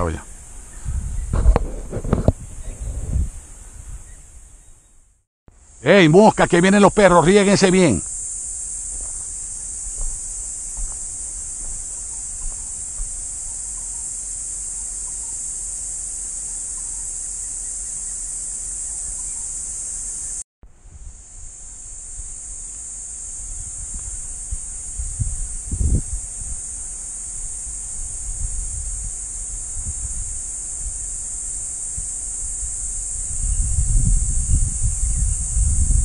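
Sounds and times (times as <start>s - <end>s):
insects chorus: 0.0s - 4.9s, 5.5s - 36.0s.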